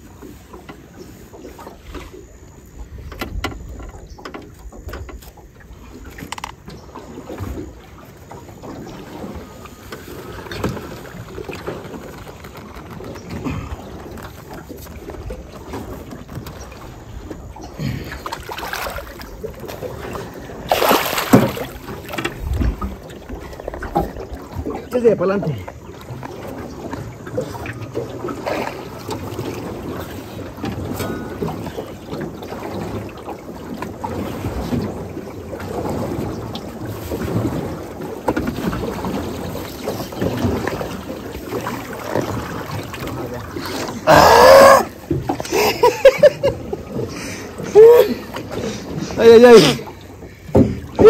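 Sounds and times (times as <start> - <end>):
water splashing around boat: 0.0 - 51.0.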